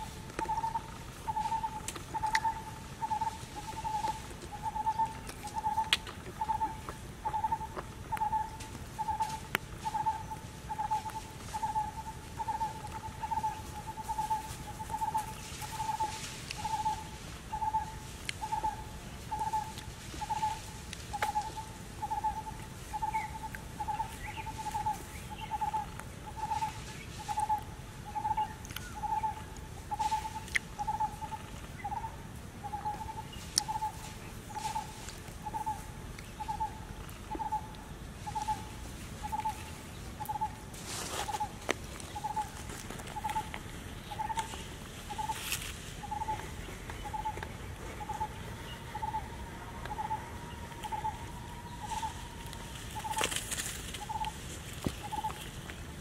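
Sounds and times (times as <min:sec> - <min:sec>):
dry leaves crackling: 0:00.0 - 0:56.0.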